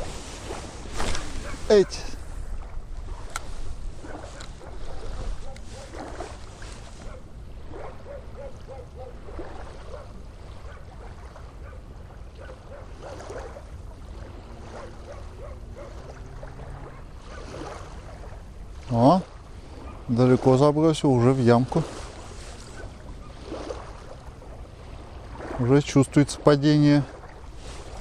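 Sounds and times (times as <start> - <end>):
wind rumbling on microphone: 0.0 - 25.8, 26.7 - 28.0
small waves lapping: 0.0 - 28.0.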